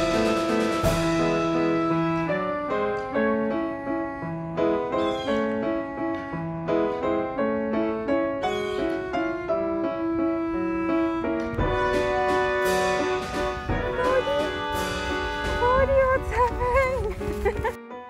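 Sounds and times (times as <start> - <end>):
brisk piano melody: 0.0 - 18.0.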